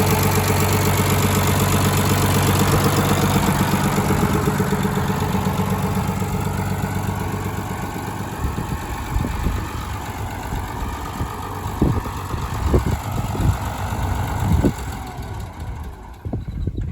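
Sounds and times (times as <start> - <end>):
tractor engine idling: 0.0 - 16.9.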